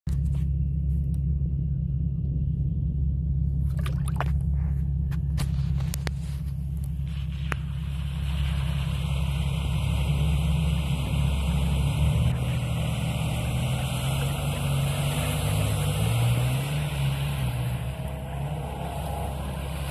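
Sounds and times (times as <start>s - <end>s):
vehicle engine rumble: 0.0s - 19.9s.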